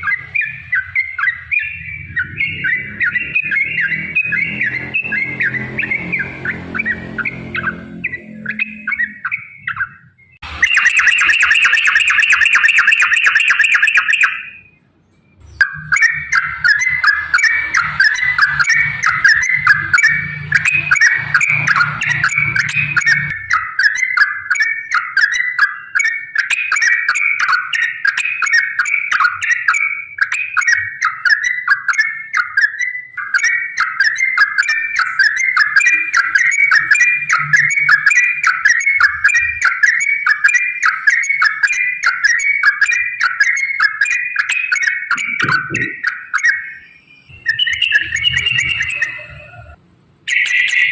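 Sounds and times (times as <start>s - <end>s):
bird chattering song: 0.0s - 50.9s
fast bird trill: 0.0s - 50.9s.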